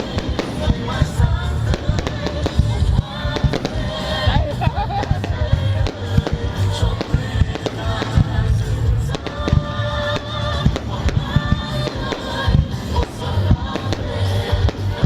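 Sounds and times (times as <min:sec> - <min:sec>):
fireworks bangs and crackles: 0:00.0 - 0:15.0
loud music: 0:00.0 - 0:15.0.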